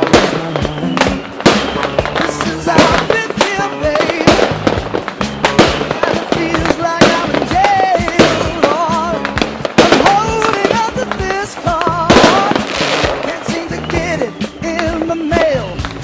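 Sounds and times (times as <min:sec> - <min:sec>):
background music: 0:00.0 - 0:16.0
fireworks banging and crackling: 0:00.0 - 0:16.0.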